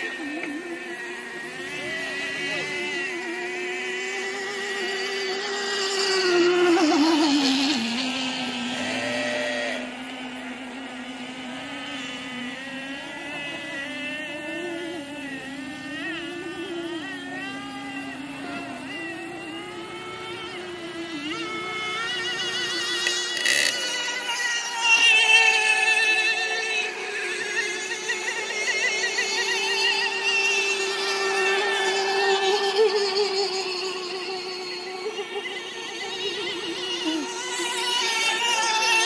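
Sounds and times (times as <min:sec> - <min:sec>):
model boat engine high revs: 0:00.0 - 0:39.0.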